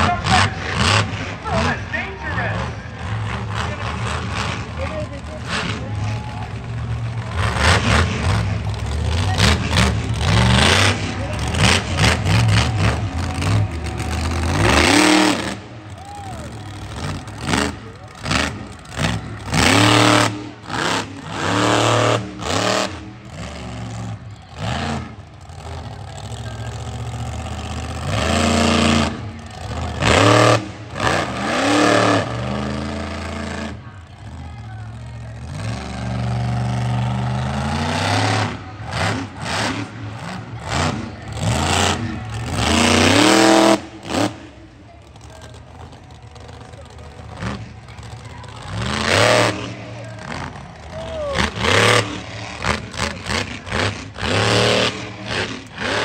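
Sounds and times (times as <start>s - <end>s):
monster truck engine revving: 0.0s - 56.0s.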